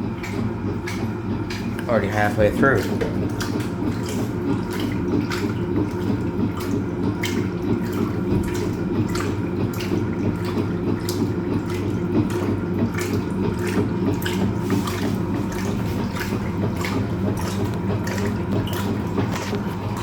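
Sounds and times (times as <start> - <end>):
washing machine motor hum: 0.0 - 20.0
water sloshing in drum: 0.0 - 20.0.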